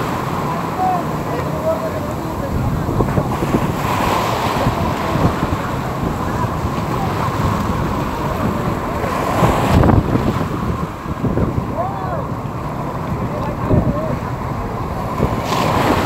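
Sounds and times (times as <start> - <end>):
sea surf breaking: 0.0 - 16.0
wind buffeting microphone: 0.0 - 16.0.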